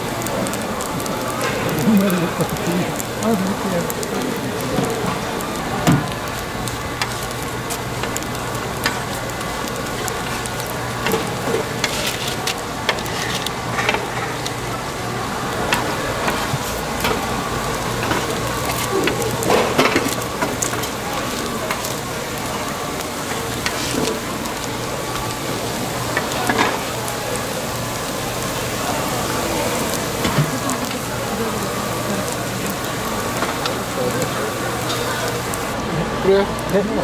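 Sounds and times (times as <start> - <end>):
dumplings sizzling in oil: 0.0 - 36.8.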